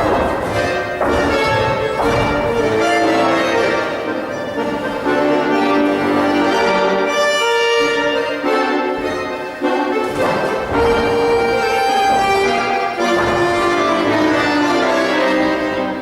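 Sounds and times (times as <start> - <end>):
accordion music: 0.0 - 16.0.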